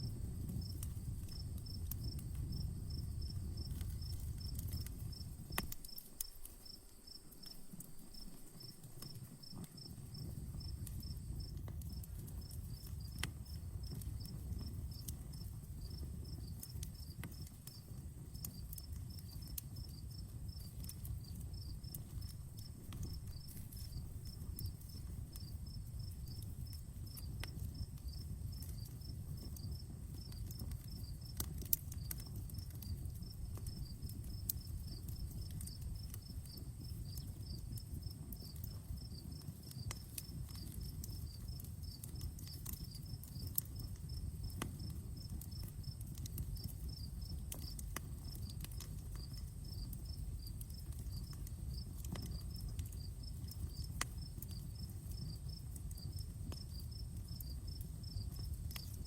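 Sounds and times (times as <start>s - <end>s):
crickets chirping: 0.0s - 31.3s, 32.2s - 59.0s
campfire crackling and popping: 0.0s - 59.0s.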